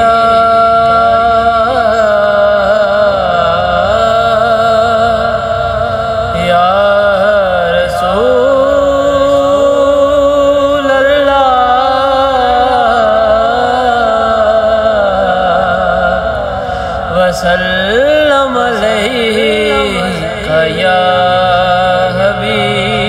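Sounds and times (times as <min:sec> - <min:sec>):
man chanting unaccompanied: 0:00.0 - 0:23.0.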